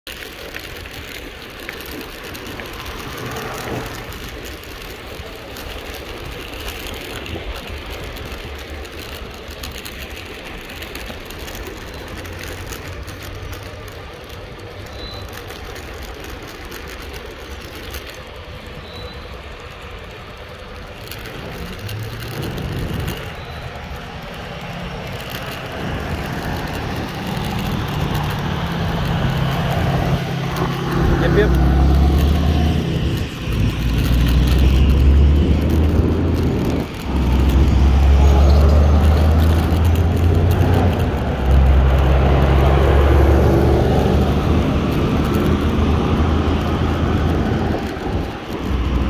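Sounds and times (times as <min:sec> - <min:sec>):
board wheels rolling: 0:00.0 - 0:49.0.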